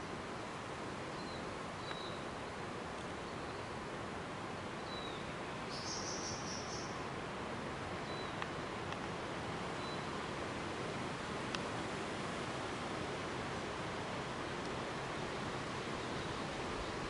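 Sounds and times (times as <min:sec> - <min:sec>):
steady forest hiss: 0:00.0 - 0:17.0.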